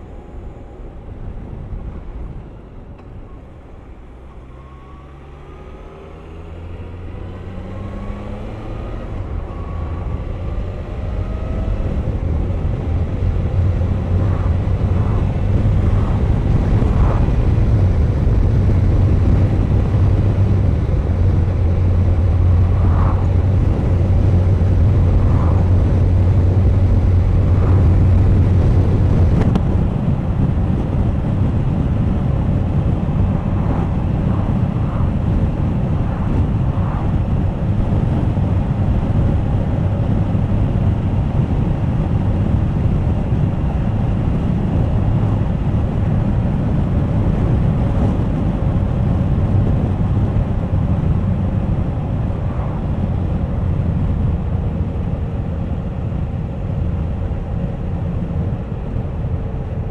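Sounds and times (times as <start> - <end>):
road noise: 0.0 - 59.9
wind noise on microphone: 5.8 - 59.9.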